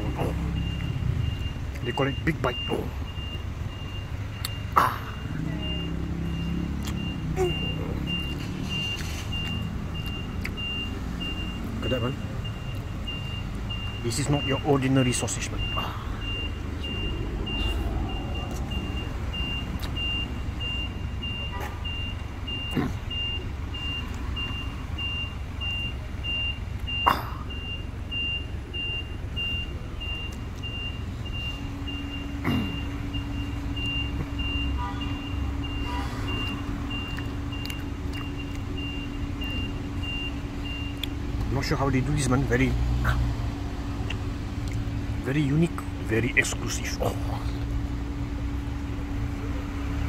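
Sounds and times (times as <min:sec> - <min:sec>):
electronic warning beeper: 0:00.0 - 0:41.0
low rumble of traffic: 0:00.0 - 0:50.0.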